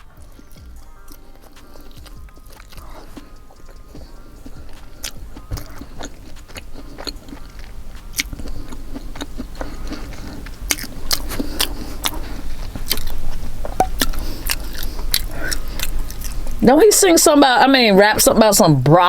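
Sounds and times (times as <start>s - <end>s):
chewing pizza: 0.0s - 18.4s.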